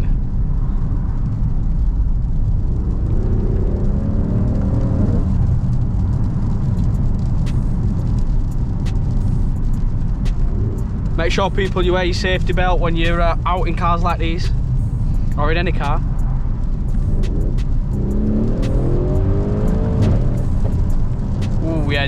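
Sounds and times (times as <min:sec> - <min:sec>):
car engine accelerating: 0:00.0 - 0:22.0
road rumble inside car: 0:00.0 - 0:22.0.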